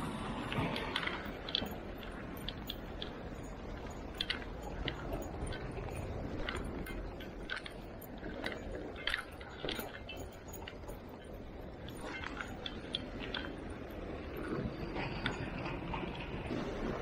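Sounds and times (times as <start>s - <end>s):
fishing gear clicking and scraping: 0.4s - 17.0s.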